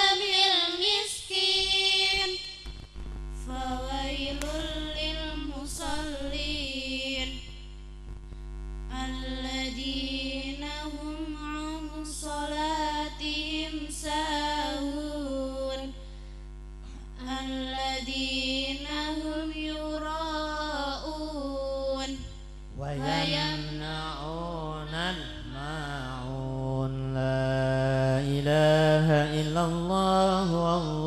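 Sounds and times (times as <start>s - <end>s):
women reciting through microphones: 0.0s - 7.7s, 8.9s - 16.2s, 17.0s - 31.0s
low electrical hum: 0.0s - 31.0s.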